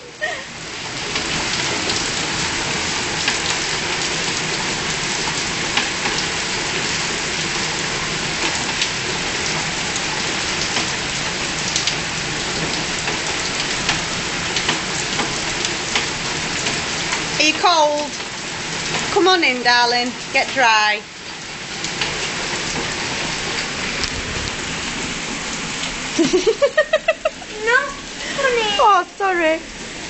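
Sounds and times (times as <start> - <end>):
heavy rain on stone paving: 0.0 - 30.0.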